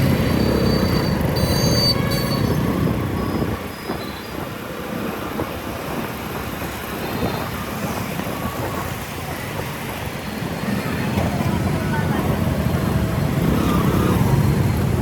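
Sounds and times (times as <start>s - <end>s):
road noise: 0.0s - 15.0s
wind noise: 0.0s - 15.0s.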